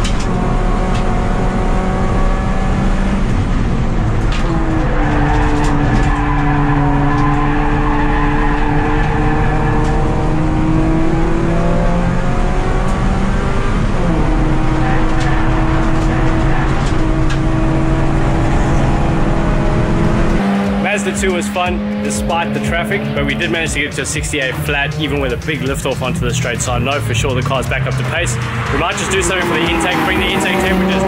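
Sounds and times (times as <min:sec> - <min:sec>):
race car engine from inside cabin: 0:00.0 - 0:31.0.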